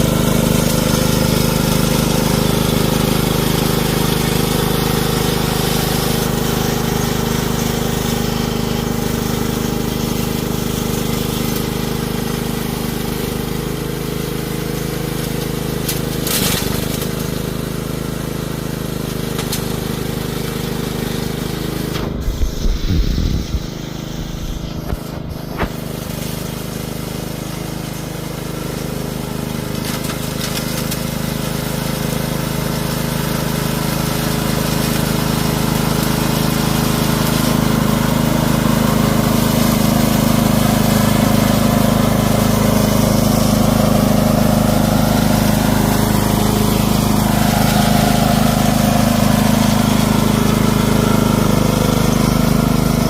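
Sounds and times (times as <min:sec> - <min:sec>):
electric weeder motor hum: 0:00.0 - 0:53.0.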